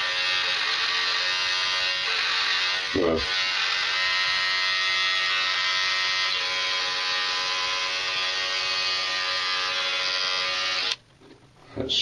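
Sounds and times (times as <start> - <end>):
electric beard trimmer buzzing: 0.0 - 11.0.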